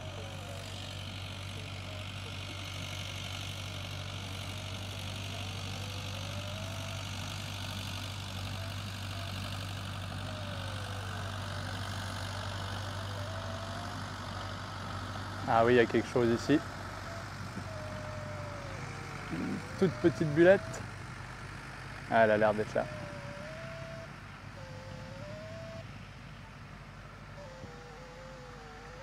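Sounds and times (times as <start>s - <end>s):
faint wandering electronic tone: 0.0s - 20.9s, 22.1s - 29.0s.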